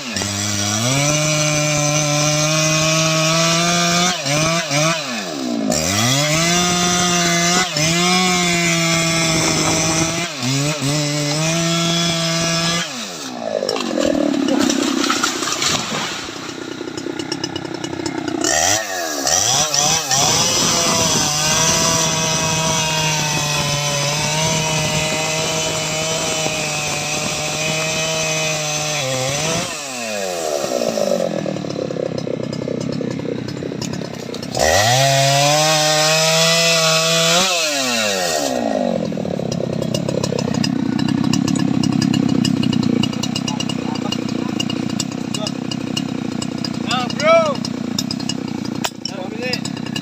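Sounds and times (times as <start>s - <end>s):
chainsaw cutting wood: 0.0s - 50.0s
chainsaw idling and revving: 0.0s - 50.0s.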